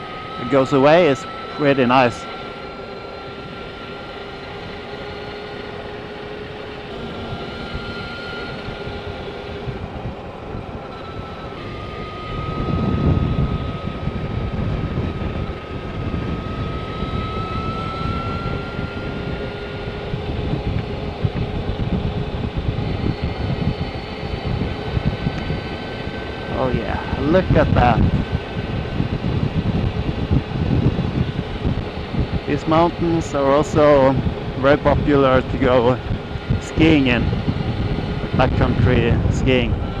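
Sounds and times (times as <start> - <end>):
electric motorcycle motor whine: 0.0 - 40.0
wind rushing across microphone: 3.0 - 40.0.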